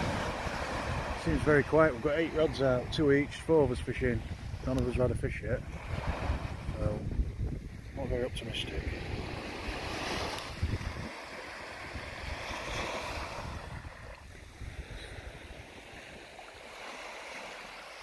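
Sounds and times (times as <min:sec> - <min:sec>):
wind gusting on microphone: 0:00.0 - 0:16.3
sea surf washing onto beach: 0:00.0 - 0:18.0.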